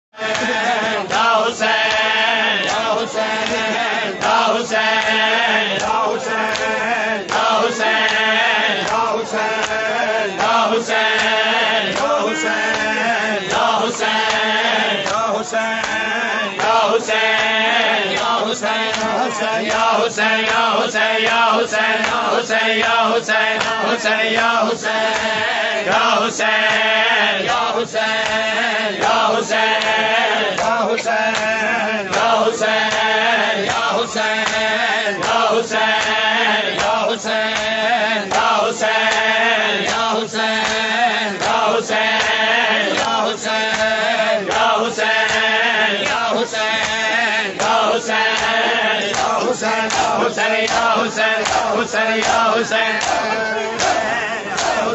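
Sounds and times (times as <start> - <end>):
mourners' voices chanting: 0.0 - 54.9
hands slapping chests: 0.3 - 25.6, 26.5 - 54.9.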